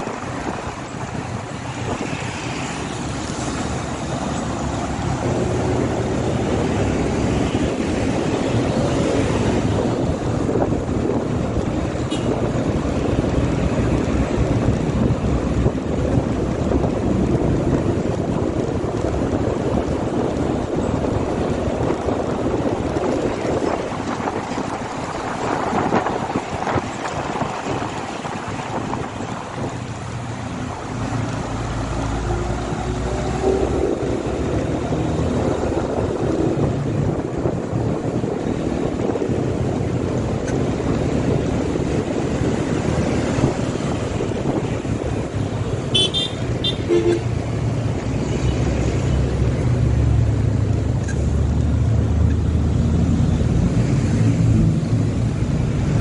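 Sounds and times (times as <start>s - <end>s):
motorcycle engine and road noise: 0.0s - 56.0s
wind rushing over microphone: 0.0s - 56.0s.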